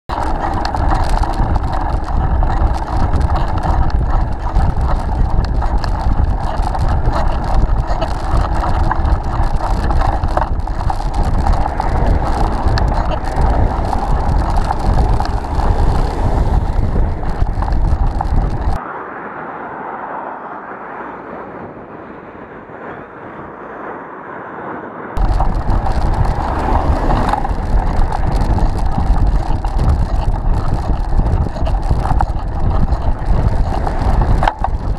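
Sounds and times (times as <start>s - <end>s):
road and tyre noise: 0.0s - 34.9s
wind buffeting microphone: 0.1s - 18.8s, 25.1s - 34.9s.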